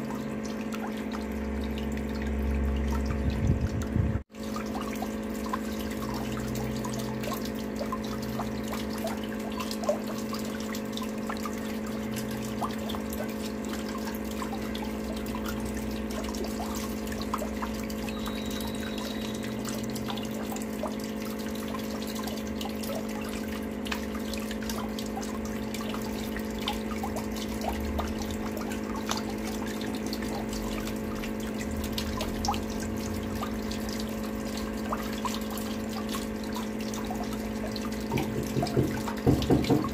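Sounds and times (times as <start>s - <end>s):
steady low hum: 0.0s - 39.1s
water drips and splashes: 0.0s - 39.9s
water trickling from a tap: 0.0s - 39.9s.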